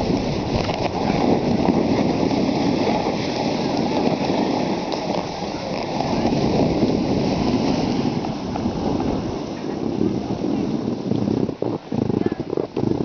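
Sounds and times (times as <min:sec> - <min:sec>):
snowboard scraping over snow: 0:00.0 - 0:13.0
wind buffeting microphone: 0:00.0 - 0:13.0.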